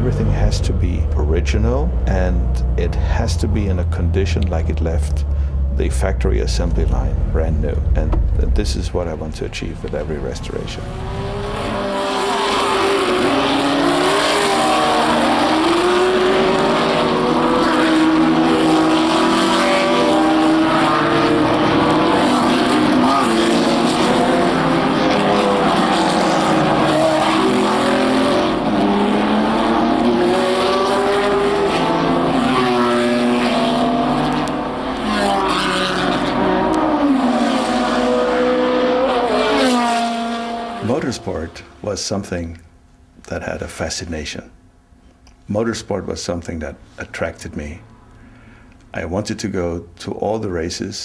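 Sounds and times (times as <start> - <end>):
racing car engines revving: 0.0 - 41.7.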